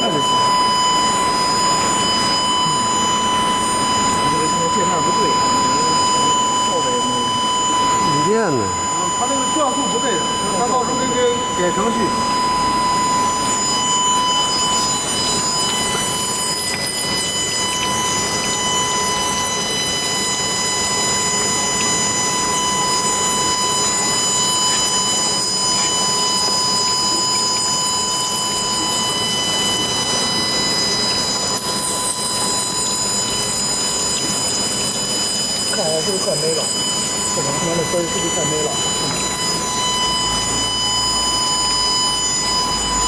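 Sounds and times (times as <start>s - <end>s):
high-pitched whine tones: 0.0s - 43.0s
welding machine hum and hiss: 0.0s - 43.0s.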